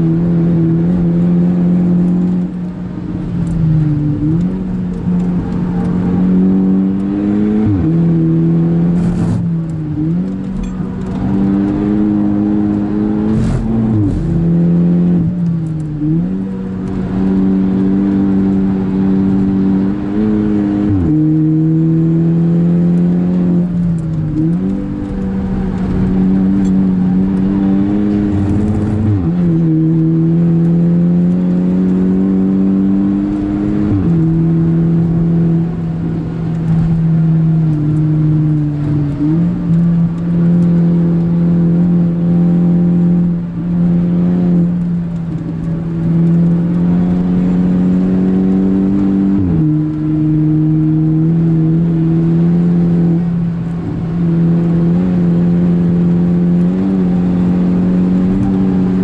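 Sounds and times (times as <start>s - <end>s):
car engine accelerating hard: 0.0s - 59.0s.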